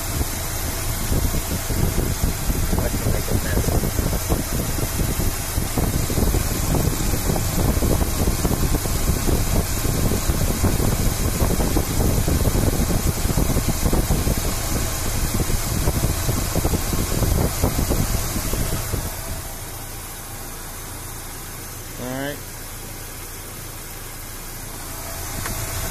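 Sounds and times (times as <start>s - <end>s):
truck engine idling: 0.0s - 25.9s.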